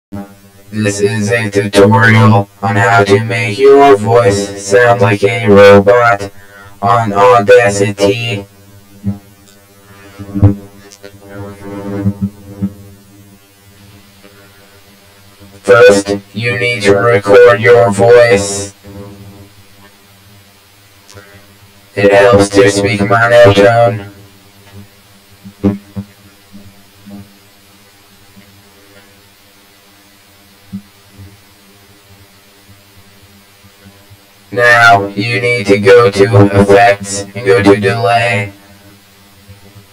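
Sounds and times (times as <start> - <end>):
electrical buzzing hum: 0.1 - 39.9.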